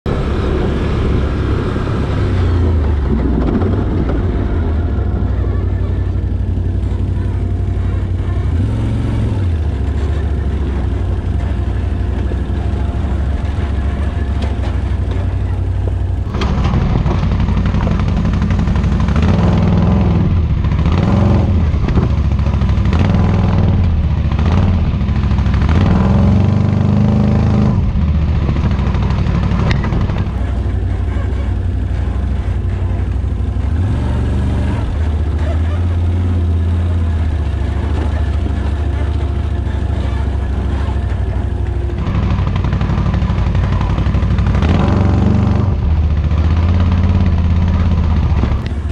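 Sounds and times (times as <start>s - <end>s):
atv engine revving: 0.1s - 48.9s.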